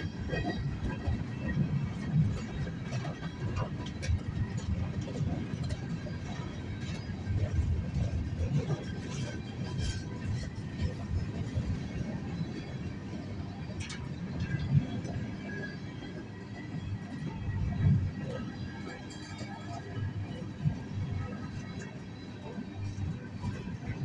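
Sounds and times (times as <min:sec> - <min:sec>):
clicks and clanks from cars: 0:00.0 - 0:24.0
steel wheels rumbling on rail: 0:00.0 - 0:24.0.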